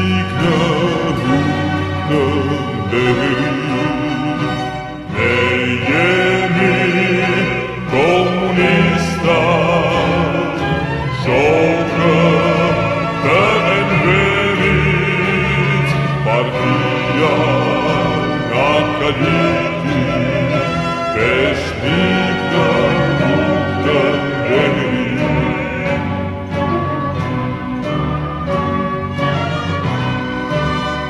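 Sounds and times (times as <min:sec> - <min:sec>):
slowed reverb-heavy song with orchestra: 0:00.0 - 0:31.0.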